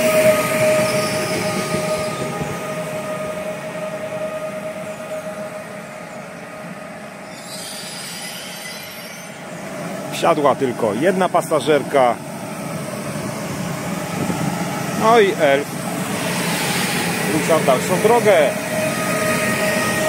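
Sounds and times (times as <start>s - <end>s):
electric train whine and rumble: 0.0s - 20.0s.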